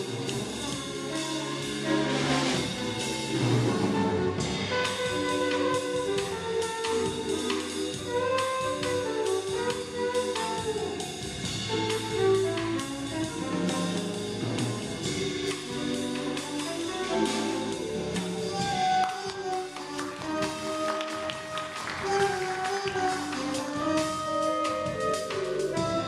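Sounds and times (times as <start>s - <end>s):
drum kit with cymbals: 0.0s - 26.0s
jazz band playing: 0.0s - 26.0s
trombone: 0.0s - 26.0s
upright bass line: 0.0s - 26.0s.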